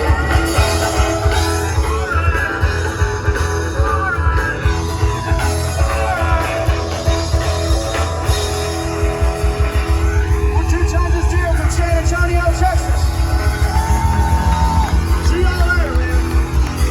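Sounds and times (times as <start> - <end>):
electric guitar: 0.0 - 16.9
heavy bass beat: 0.0 - 16.9.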